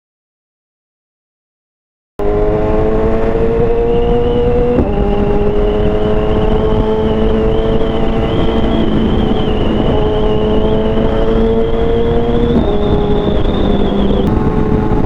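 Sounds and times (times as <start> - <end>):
low wind rumble: 2.2 - 15.0
motorcycle engine at speed: 2.2 - 15.0.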